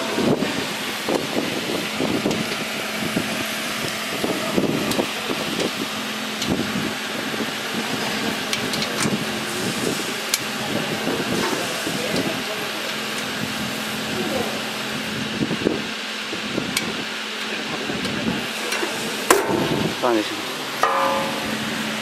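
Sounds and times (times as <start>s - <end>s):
machinery hiss and hum: 0.0s - 22.0s.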